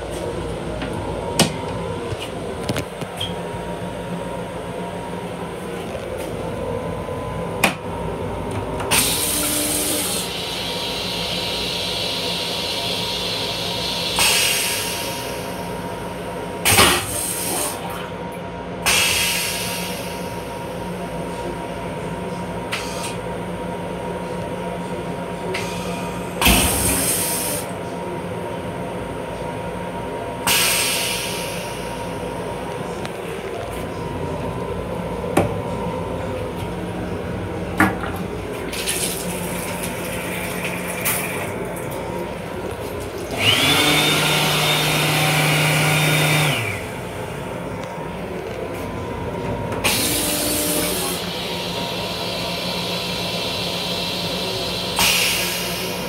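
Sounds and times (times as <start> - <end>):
railcar low rumble and hum: 0.0 - 43.6, 46.5 - 56.0.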